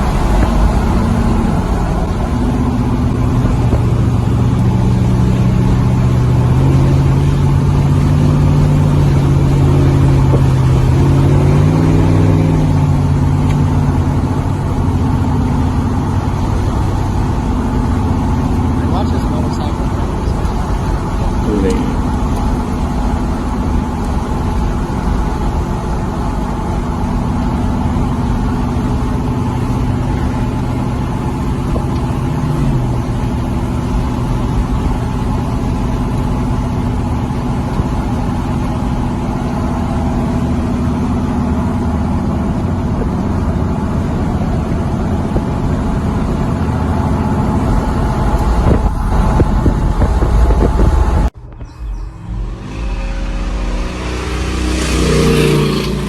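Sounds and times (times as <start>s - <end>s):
truck engines rumbling: 0.0s - 56.0s.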